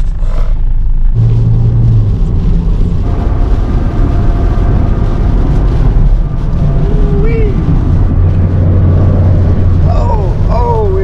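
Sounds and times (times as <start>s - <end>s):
car driving in storm wind: 0.0s - 11.0s.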